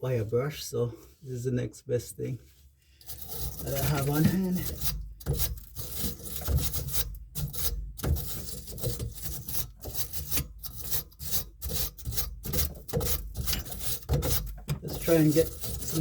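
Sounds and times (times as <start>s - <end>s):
brush scrubbing pipe threads: 3.0s - 16.0s.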